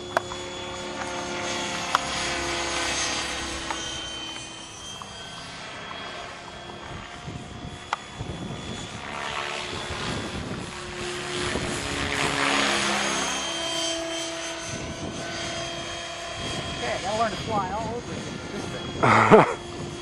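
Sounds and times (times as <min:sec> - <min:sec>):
rc helicopter motor whine: 0:00.0 - 0:20.0
rotor blades noise: 0:00.0 - 0:20.0.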